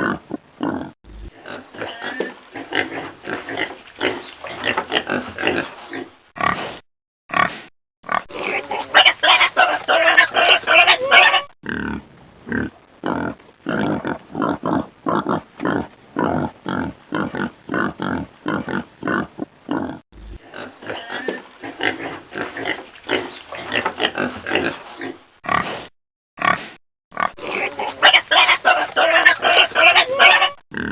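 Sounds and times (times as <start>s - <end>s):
pigs squealing: 0.0s - 6.6s, 8.1s - 25.7s, 27.2s - 30.9s
pigs grunting: 0.0s - 6.7s, 7.3s - 25.8s, 26.4s - 30.9s.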